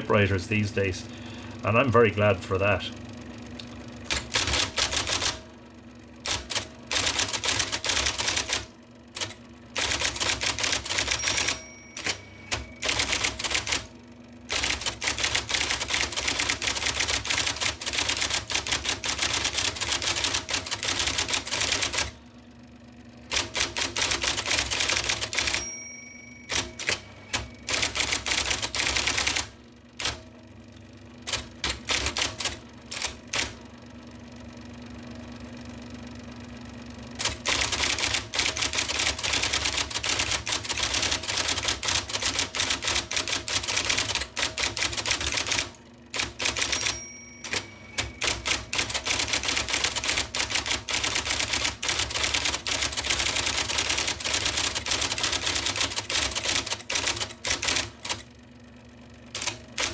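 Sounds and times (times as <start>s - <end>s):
typewriter motor hum: 0.0s - 22.4s, 23.1s - 33.9s, 36.9s - 59.9s
electric typewriter typing: 3.6s - 5.5s, 6.2s - 22.2s, 23.2s - 30.3s, 31.2s - 33.7s, 37.2s - 58.4s, 59.3s - 59.9s.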